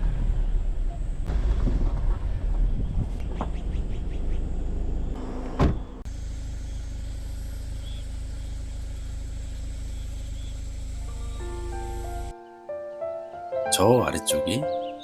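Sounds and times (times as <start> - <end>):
low vehicle hum: 0.0 - 12.3
tyres and body rumbling: 0.0 - 12.3.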